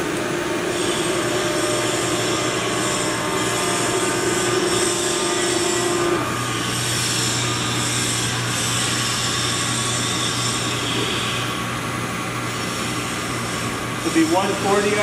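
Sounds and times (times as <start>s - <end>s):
lathe mechanical hum: 0.0s - 15.0s.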